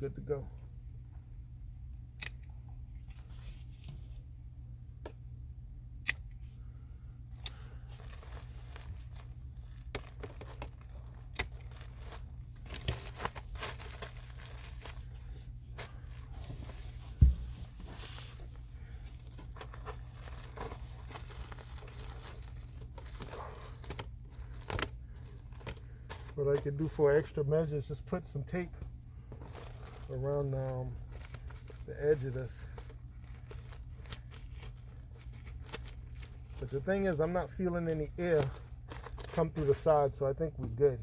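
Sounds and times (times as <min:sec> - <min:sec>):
duct crinkling and rustling: 0:07.3 - 0:41.0.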